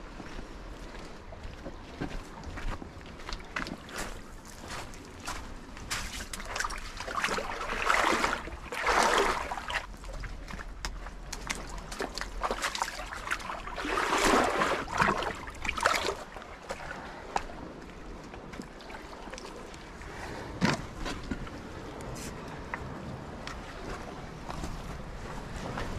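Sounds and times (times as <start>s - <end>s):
seawater washing against rocks: 3.4s - 25.9s.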